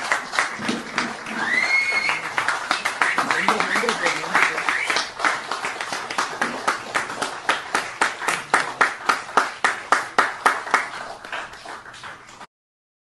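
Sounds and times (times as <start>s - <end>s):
people clapping in rhythm: 0.0s - 12.5s.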